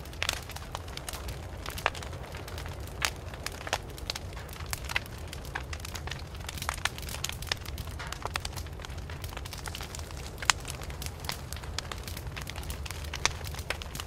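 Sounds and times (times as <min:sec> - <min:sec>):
burning wood popping: 0:00.0 - 0:14.0
flames rumbling: 0:00.0 - 0:14.0
wood fire crackling: 0:00.0 - 0:14.0.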